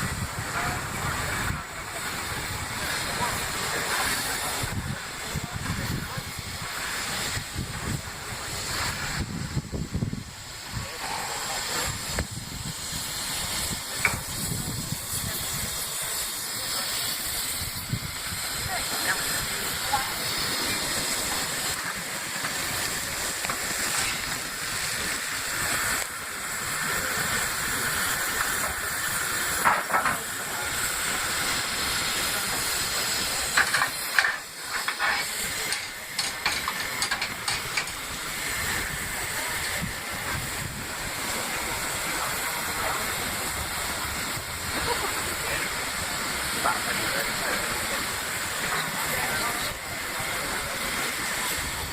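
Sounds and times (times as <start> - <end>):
steam locomotive hissing steam: 0.0 - 51.9.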